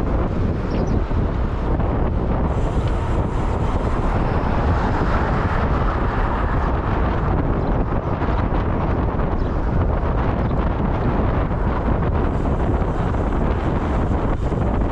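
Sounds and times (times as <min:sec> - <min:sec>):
vehicle and road noise: 0:00.0 - 0:14.9
wind buffeting microphone: 0:00.0 - 0:14.9.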